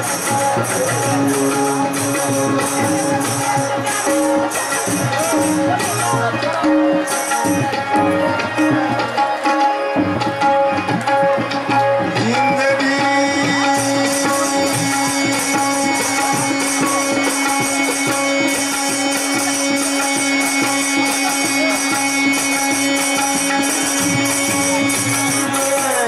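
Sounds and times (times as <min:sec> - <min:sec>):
jingling percussion beat: 0:00.0 - 0:26.0.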